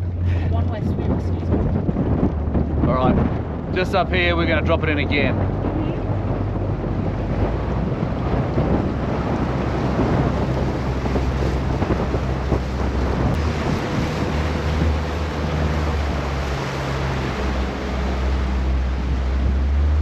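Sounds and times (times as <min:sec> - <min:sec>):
outboard motor humming: 0:00.0 - 0:20.0
water rushing along hull: 0:00.0 - 0:20.0
wind buffeting microphone: 0:00.0 - 0:20.0.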